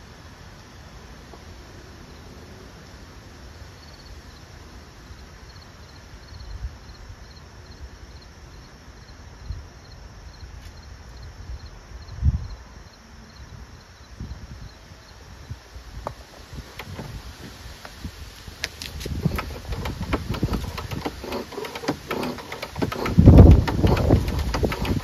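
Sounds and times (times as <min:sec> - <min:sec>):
insect chirping: 0:00.0 - 0:25.0.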